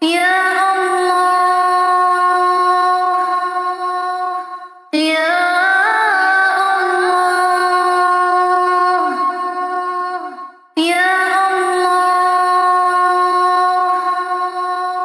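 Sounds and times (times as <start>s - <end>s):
high voice chanting: 0.0s - 15.0s.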